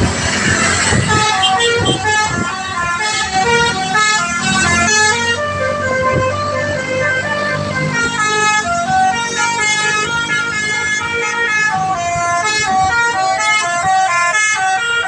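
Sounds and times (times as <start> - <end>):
bus horn playing melody: 0.3 - 15.0.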